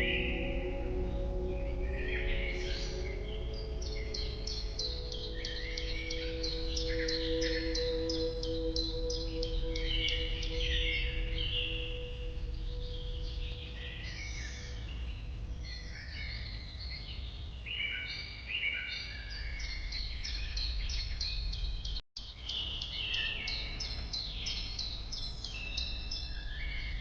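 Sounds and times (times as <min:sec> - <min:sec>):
birds chirping and whistling: 0:00.0 - 0:27.0.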